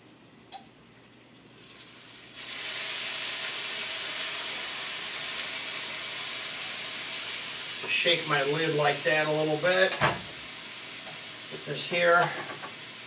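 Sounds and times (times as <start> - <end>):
food sizzling in a frying pan: 1.5 - 13.0.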